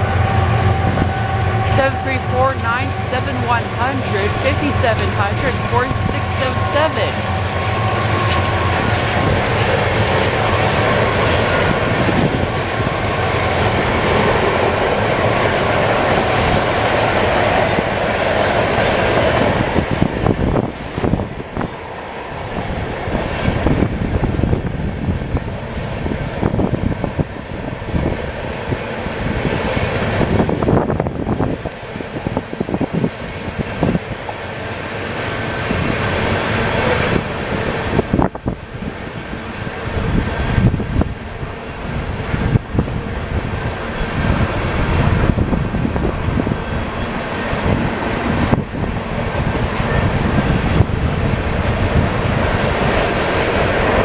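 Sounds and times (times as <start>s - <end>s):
diesel locomotive engine: 0.0s - 54.0s
railcars rumbling on rails: 0.0s - 54.0s.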